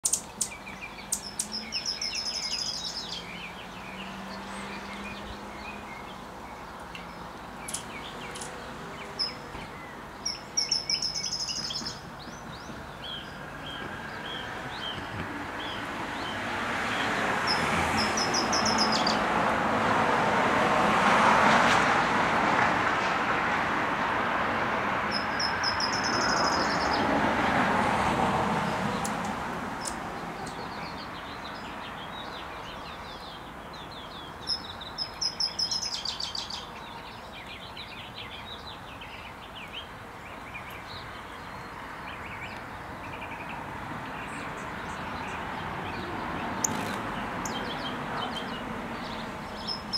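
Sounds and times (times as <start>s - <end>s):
small birds chirping: 0.0s - 19.2s, 25.1s - 27.1s, 28.7s - 49.9s.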